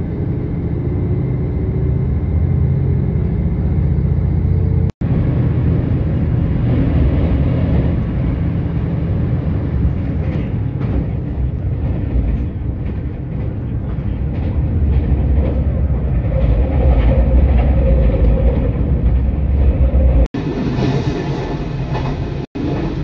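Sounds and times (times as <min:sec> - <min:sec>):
diesel train rumbling on track: 0:00.0 - 0:23.0.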